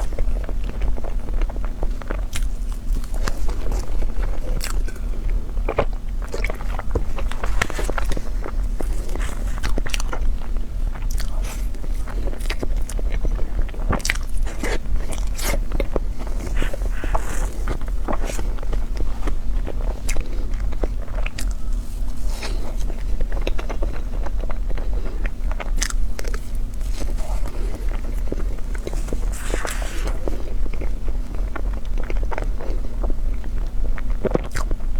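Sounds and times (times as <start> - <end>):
person biting and chewing: 0.0 - 32.9, 34.0 - 34.8
steady low hum: 0.0 - 34.9.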